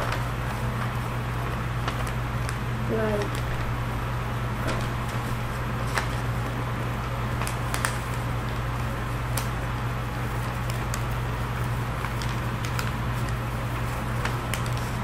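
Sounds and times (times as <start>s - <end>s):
paper being folded: 0.0s - 3.8s, 4.6s - 15.0s
steady low hum: 0.0s - 15.0s.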